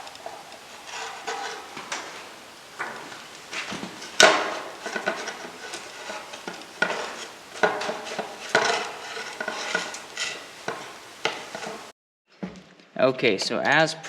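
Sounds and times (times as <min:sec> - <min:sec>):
metal scraping: 0:00.0 - 0:11.9
steel rod clanking on metal: 0:00.0 - 0:11.9.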